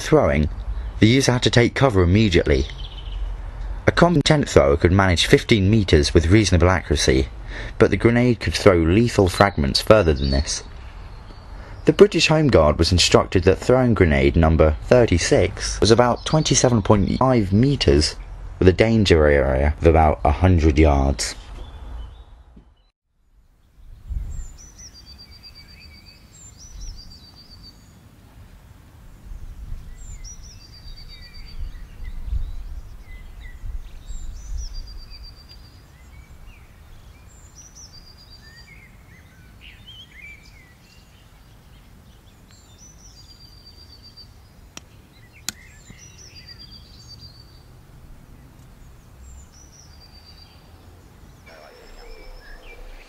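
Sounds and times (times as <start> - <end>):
low wind rumble: 0.0 - 22.6, 23.3 - 53.0
songbird singing: 0.0 - 53.0.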